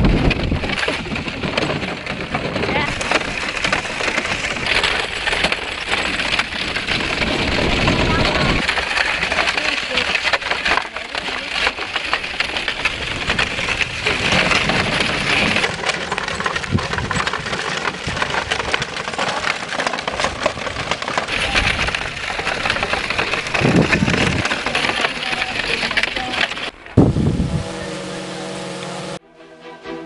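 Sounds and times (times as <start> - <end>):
carriage wheels crunching on gravel: 0.0 - 29.2.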